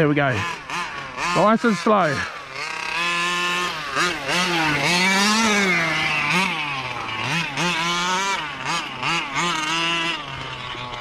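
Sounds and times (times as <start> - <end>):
small two-stroke engine revving: 0.0 - 11.0.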